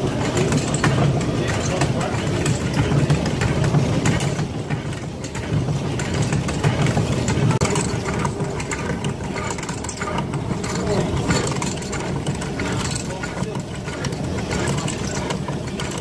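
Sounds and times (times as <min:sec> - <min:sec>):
rapid continuous wooden rattle: 0:00.0 - 0:16.0.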